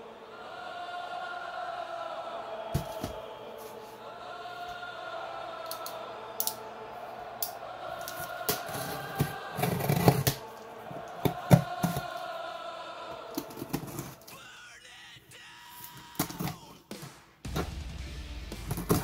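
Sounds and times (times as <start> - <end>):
background music: 0.0 - 14.9, 16.2 - 19.0.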